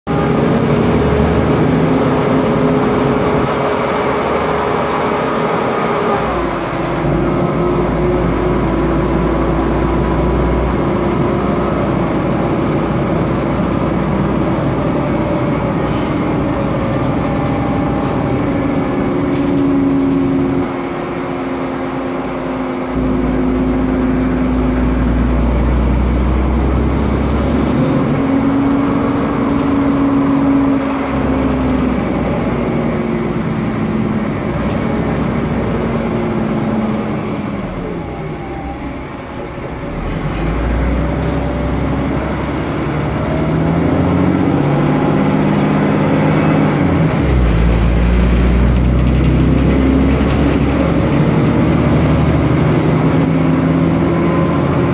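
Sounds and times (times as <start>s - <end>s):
bus engine running: 0.0s - 54.9s
deep drone: 0.1s - 54.9s.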